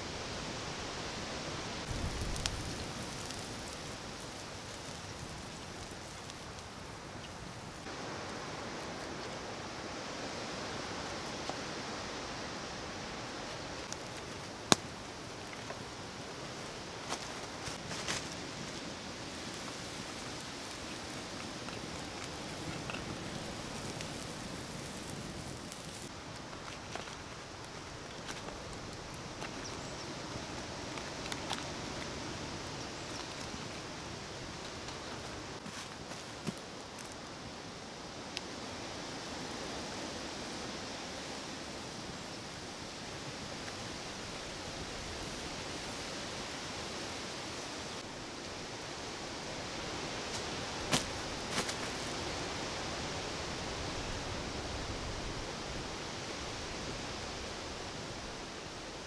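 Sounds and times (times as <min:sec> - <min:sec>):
campfire burning hiss: 0:00.0 - 0:59.0.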